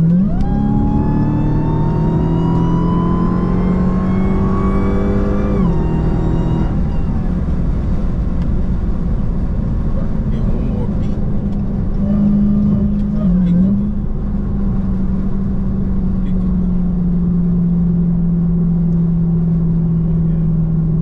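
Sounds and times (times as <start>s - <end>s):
car engine accelerating: 0.0s - 21.0s
road noise rumble: 0.0s - 21.0s
supercharger whine: 0.0s - 21.0s.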